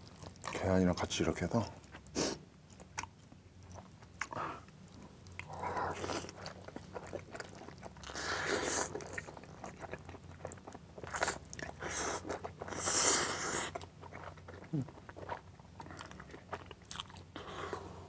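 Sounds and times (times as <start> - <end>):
wet chewing and slurping: 1.7 - 17.9.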